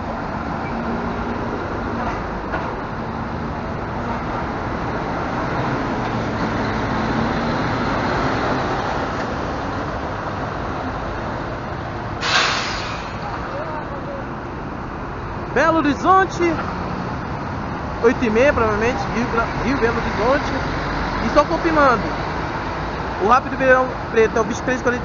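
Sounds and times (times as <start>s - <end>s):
bus diesel engine passing: 0.0s - 25.0s.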